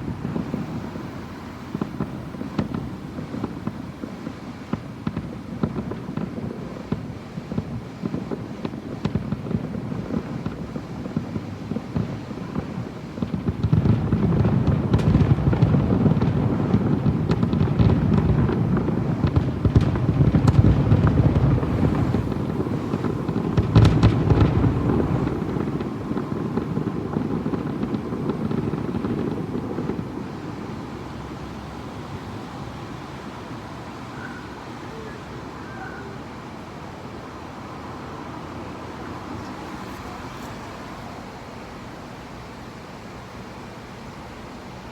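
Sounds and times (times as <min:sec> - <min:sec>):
fireworks bangs and crackles: 0:00.0 - 0:37.5.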